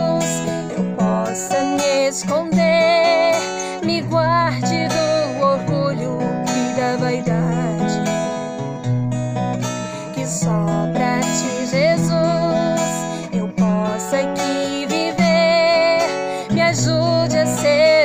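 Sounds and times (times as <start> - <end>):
woman singing with vibrato: 0.0 - 8.6, 9.8 - 18.0
strummed acoustic guitar: 0.0 - 18.0.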